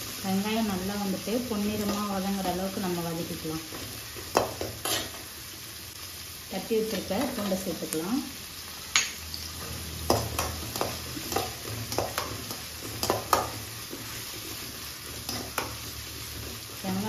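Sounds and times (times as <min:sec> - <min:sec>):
onions frying in oil: 0:00.0 - 0:17.0.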